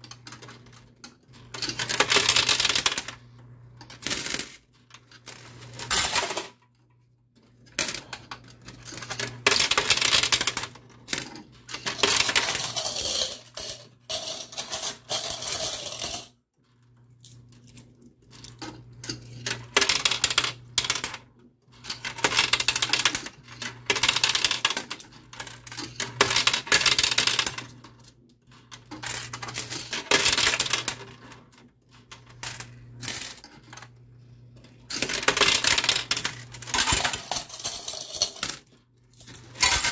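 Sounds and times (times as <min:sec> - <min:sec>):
coins clinking and sliding: 0:01.6 - 0:03.2, 0:03.8 - 0:06.5, 0:07.8 - 0:16.4, 0:17.2 - 0:21.2, 0:21.8 - 0:28.0, 0:28.6 - 0:33.9, 0:34.8 - 0:39.9.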